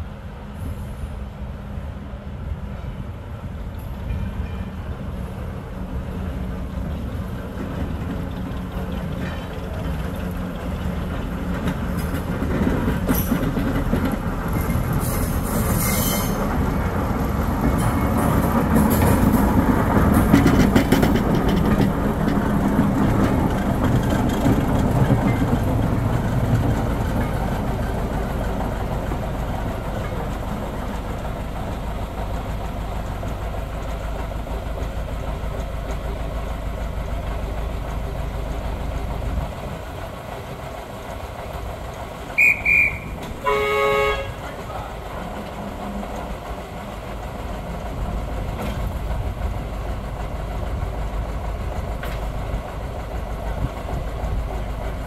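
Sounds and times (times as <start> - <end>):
diesel locomotive engine running: 0.0 - 55.0
wheels clicking over rail joints: 6.7 - 55.0.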